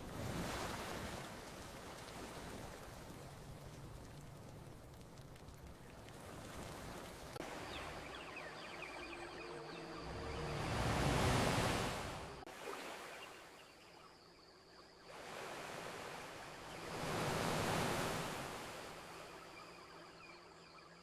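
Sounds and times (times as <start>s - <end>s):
ocean waves breaking on beach: 0.0s - 13.9s, 15.1s - 19.7s.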